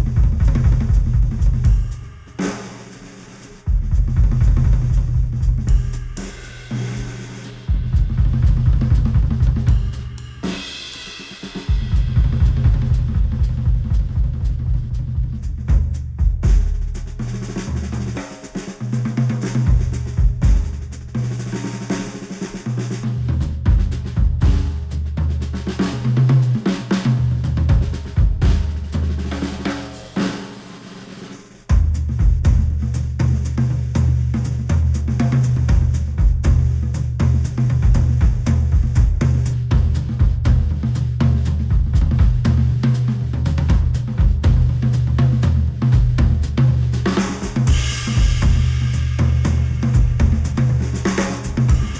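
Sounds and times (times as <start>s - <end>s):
music with drums and heavy bass: 0.0s - 51.9s.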